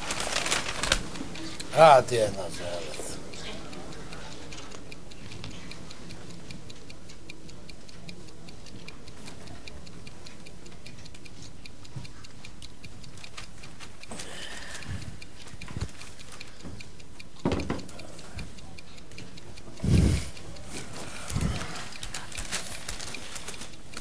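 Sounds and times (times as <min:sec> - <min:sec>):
clock ticking: 0:00.0 - 0:24.0.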